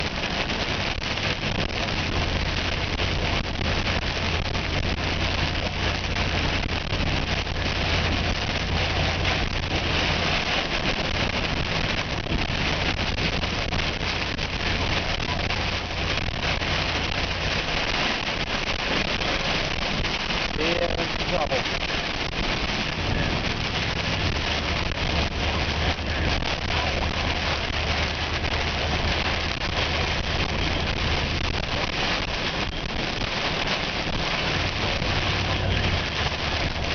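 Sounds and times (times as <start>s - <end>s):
vehicle low drone: 0.0s - 19.6s, 21.0s - 36.9s
wind and rain against vehicle: 0.0s - 36.9s.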